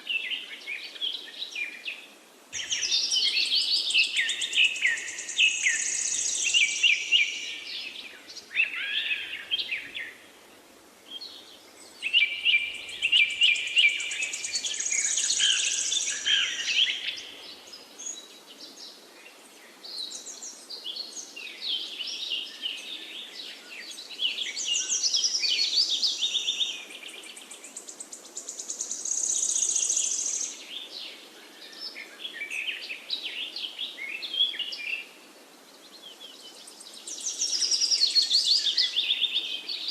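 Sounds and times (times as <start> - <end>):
faint steady background hiss: 0.0 - 39.9
songbirds chirping: 0.0 - 39.9.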